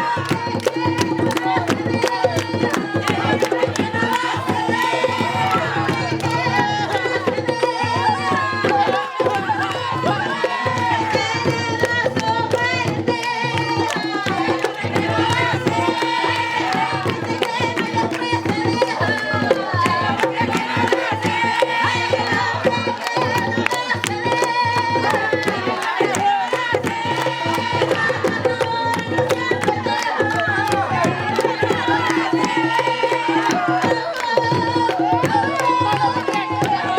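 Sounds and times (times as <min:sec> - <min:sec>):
hand drums beating fast rhythm: 0:00.0 - 0:36.9
voices singing: 0:00.0 - 0:36.9.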